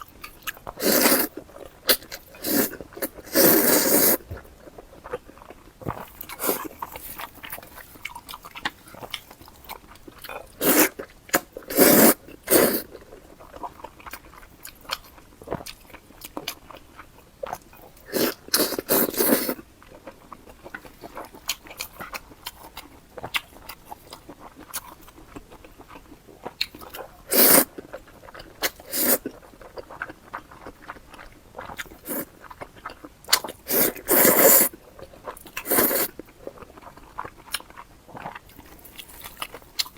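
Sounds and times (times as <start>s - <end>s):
person chewing: 0.1s - 39.9s.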